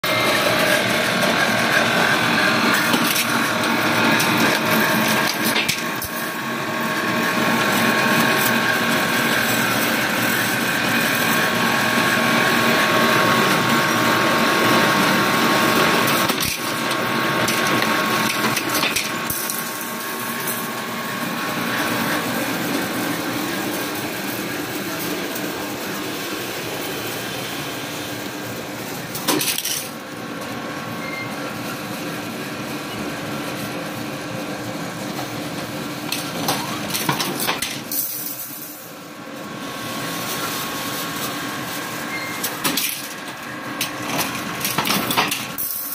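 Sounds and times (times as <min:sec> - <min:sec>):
machine humming and whirring: 0:00.0 - 0:45.9.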